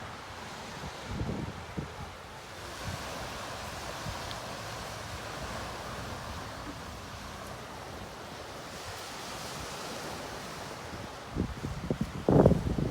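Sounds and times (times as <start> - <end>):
ocean surf washing on shore: 0.0 - 12.9
wind buffeting microphone: 0.8 - 8.1, 8.7 - 12.9.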